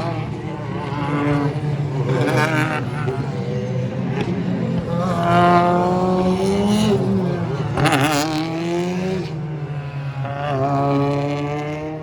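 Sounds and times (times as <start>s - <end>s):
racing car engines passing: 0.0s - 12.0s.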